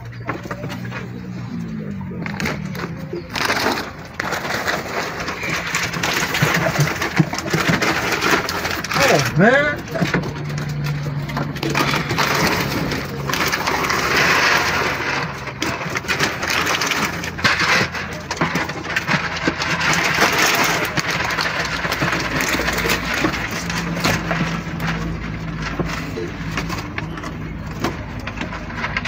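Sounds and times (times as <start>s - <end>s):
dry kibble pouring into plastic basin: 1.6s - 29.0s.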